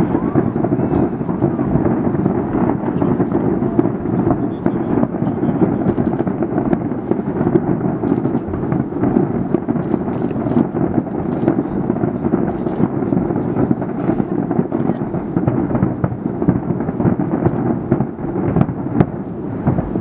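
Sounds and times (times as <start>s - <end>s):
fireworks booming: 0.0s - 20.0s
high crackling fireworks: 0.0s - 20.0s.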